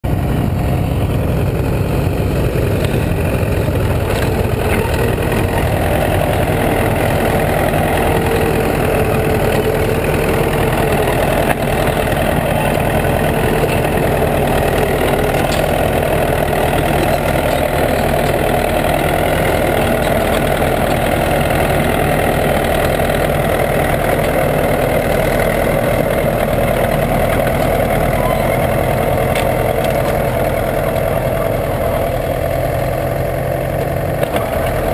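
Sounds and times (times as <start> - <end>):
bulldozer diesel engine rumbling: 0.0 - 34.9.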